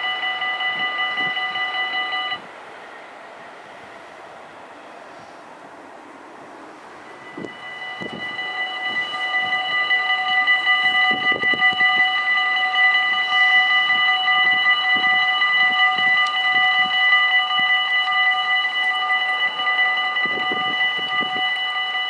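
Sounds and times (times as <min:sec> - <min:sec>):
level crossing warning bells ringing: 0:00.0 - 0:03.9, 0:06.8 - 0:22.0.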